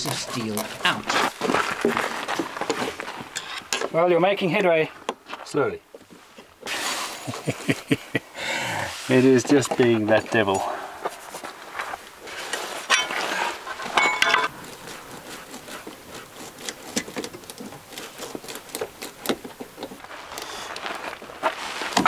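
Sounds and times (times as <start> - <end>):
hand tools scraping a tyre: 0.0 - 3.9, 6.6 - 7.4, 8.9 - 22.0.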